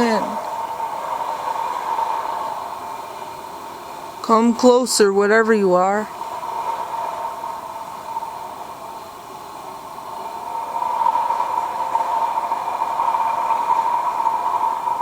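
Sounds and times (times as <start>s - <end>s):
droning whine: 0.0s - 15.0s.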